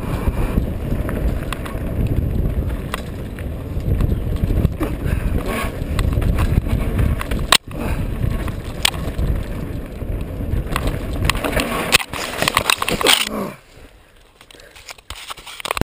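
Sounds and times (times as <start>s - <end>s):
wind on microphone: 0.0s - 13.6s
mountain bike rattling: 0.0s - 15.8s.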